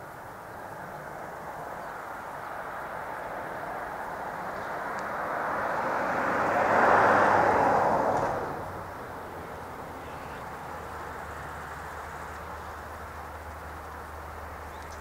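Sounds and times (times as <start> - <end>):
vehicle passing by: 1.4 - 15.0.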